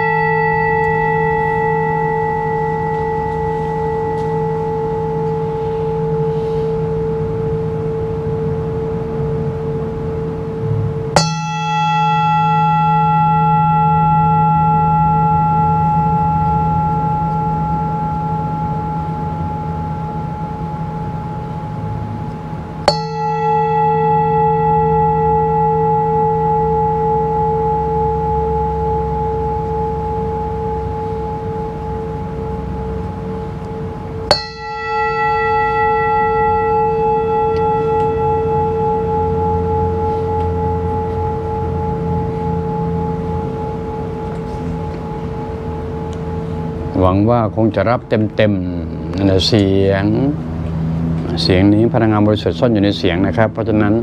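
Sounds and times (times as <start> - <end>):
singing bowl ringing: 0.0 - 54.0.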